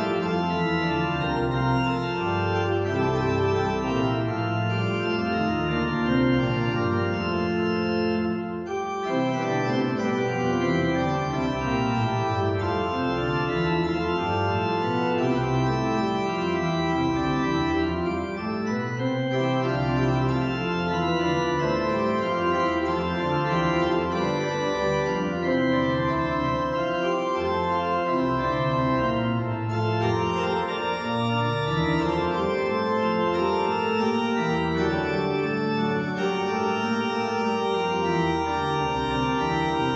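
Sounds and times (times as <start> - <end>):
church organ playing chords: 0.0 - 39.9.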